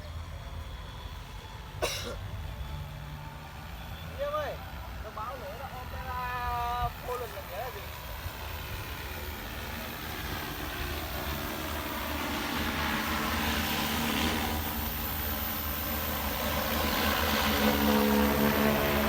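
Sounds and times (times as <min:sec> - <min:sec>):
drone rotors humming: 0:00.0 - 0:19.0.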